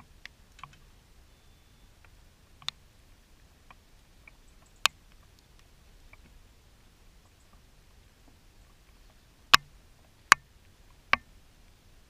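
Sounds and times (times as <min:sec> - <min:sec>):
faint sharp clicks and ticks: 0:00.0 - 0:01.0, 0:01.8 - 0:11.8.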